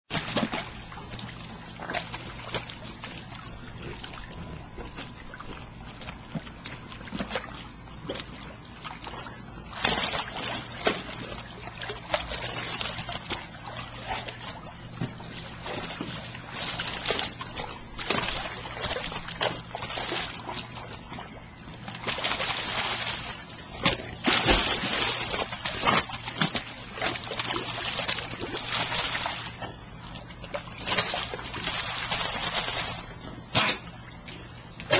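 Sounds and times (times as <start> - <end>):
dog splashing in water: 0.1 - 21.2, 21.8 - 29.6, 30.5 - 33.8.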